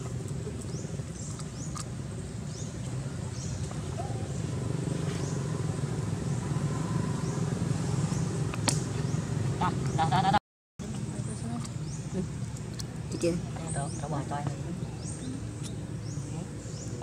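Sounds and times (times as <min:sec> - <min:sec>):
low engine-like rumble: 0:00.0 - 0:17.0.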